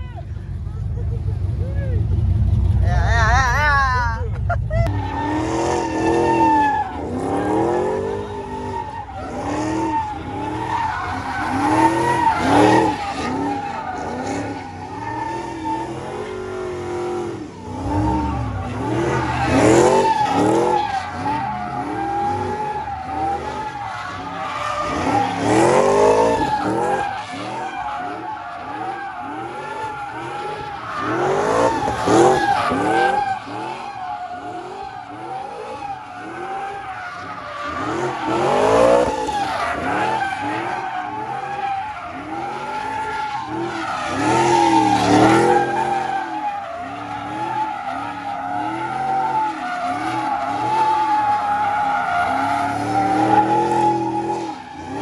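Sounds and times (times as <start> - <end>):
car engine revving: 0.4 - 3.6, 4.3 - 55.0
tyres squealing: 4.8 - 17.1, 17.8 - 55.0.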